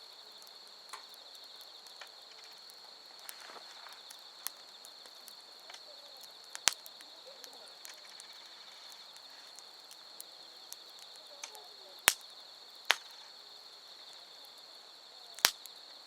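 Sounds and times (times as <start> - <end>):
firewood popping: 0.0 - 16.0
insects trilling: 0.0 - 16.0
wood fire crackling: 0.0 - 16.0.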